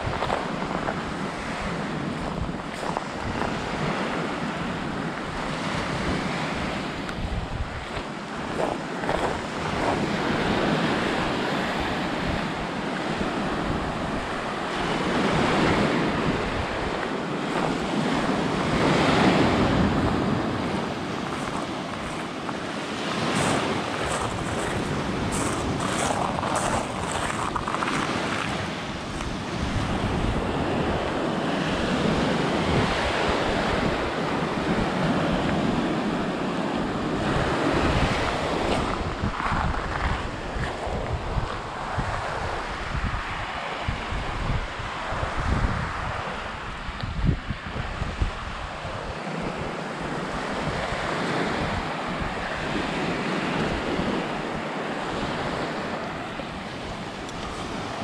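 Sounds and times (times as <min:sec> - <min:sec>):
waves washing up a shell beach: 0:00.0 - 0:58.0
wind buffeting the microphone: 0:00.0 - 0:58.0.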